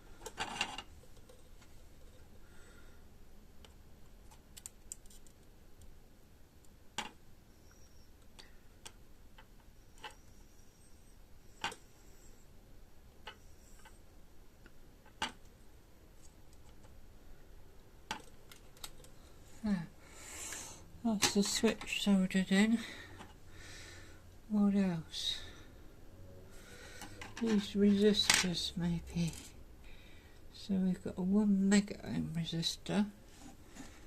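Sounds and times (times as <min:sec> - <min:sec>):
faint steady hiss: 0:00.0 - 0:34.0.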